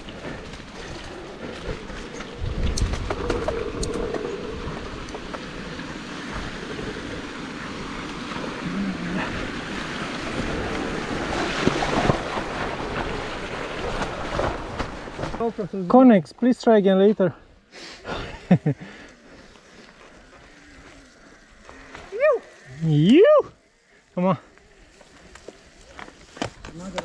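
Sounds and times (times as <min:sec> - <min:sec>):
bike tyre and wind rush: 0:00.0 - 0:15.9, 0:18.0 - 0:27.0.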